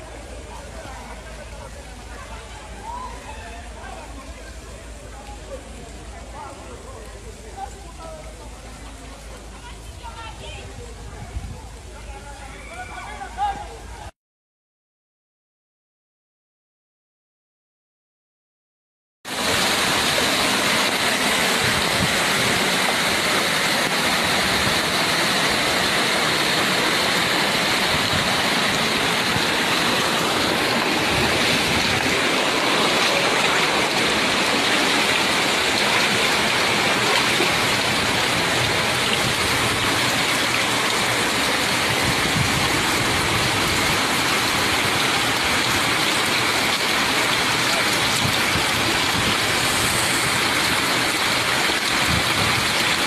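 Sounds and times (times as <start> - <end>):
heavy rain hiss: 0.0 - 14.0, 19.3 - 53.0.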